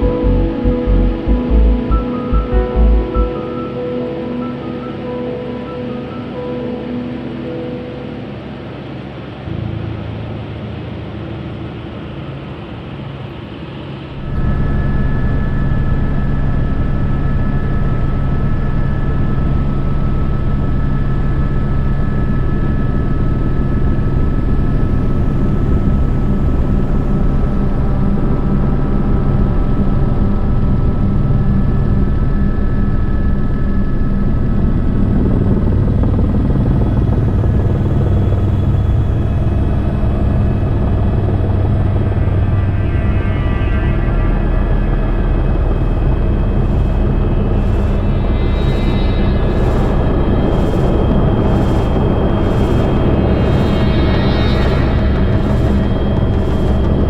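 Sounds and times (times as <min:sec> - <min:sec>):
helicopter engine and rotor drone: 0:08.4 - 0:57.0.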